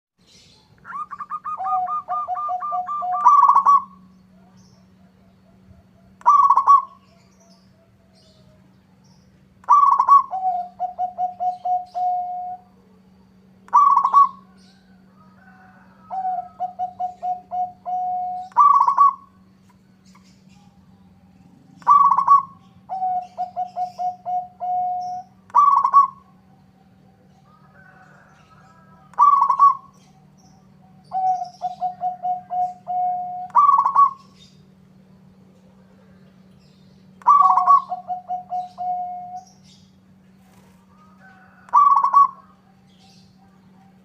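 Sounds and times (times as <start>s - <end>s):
dove cooing in phrases: 0.2s - 44.0s.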